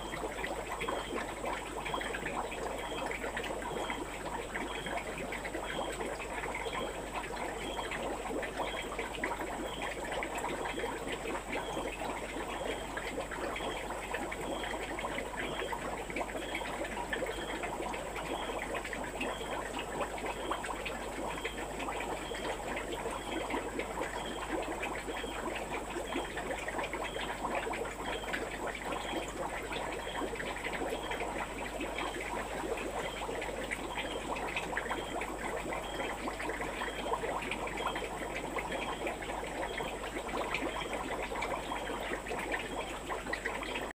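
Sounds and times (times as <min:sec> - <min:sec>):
trickling bubbling water: 0:00.0 - 0:43.9.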